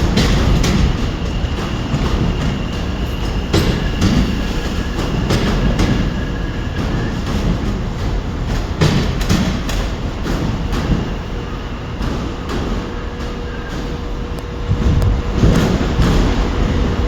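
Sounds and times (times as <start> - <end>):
train rumbling: 0.0 - 17.0
wheels clicking over rail joints: 0.0 - 17.0.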